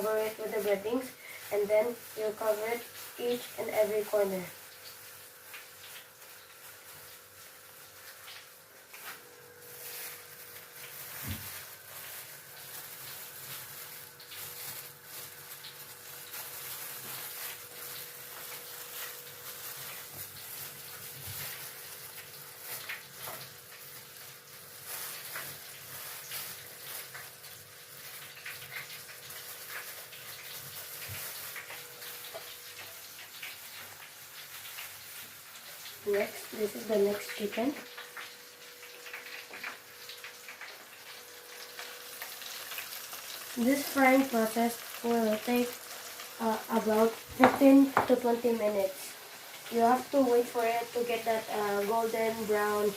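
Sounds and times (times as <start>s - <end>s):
chicken deep-frying in oil: 0.0s - 52.9s
faint steady hum: 0.0s - 52.9s.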